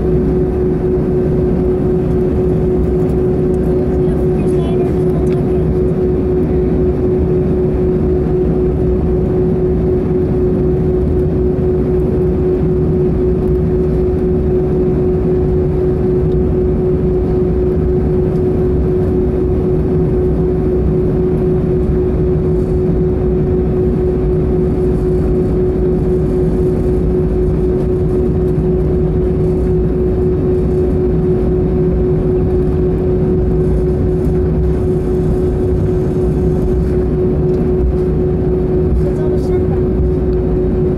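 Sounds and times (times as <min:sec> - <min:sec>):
cabin rumble and hiss: 0:00.0 - 0:15.6, 0:17.1 - 0:40.9
jet engines idling hum: 0:00.0 - 0:40.9.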